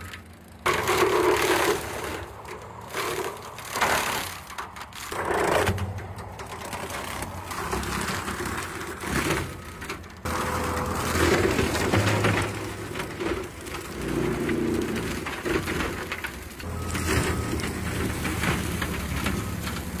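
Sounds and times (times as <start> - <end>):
diesel engine under load: 0.0 - 20.0
mulcher grinding trees: 0.0 - 20.0.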